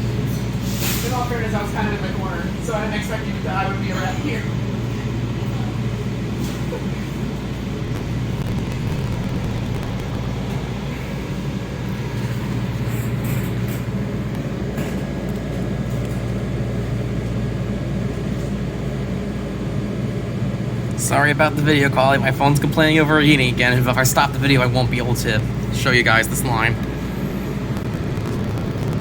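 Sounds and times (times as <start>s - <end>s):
train cabin hum and rumble: 0.0s - 29.0s.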